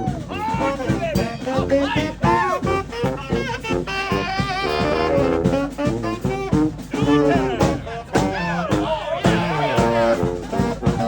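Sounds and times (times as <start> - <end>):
brass band horns: 0.0 - 11.0
steady drum beat: 0.0 - 11.0.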